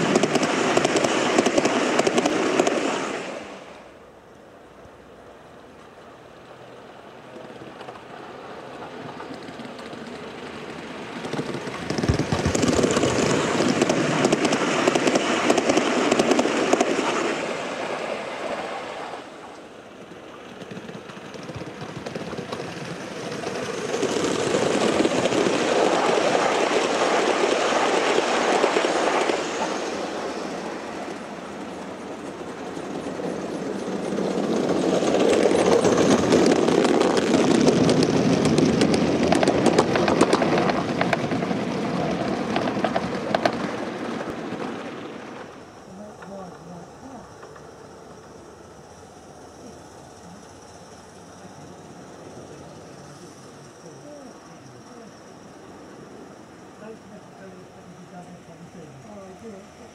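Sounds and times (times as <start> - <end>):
model train wheels clicking on rails: 0.0 - 3.6, 6.9 - 17.9, 19.4 - 54.4.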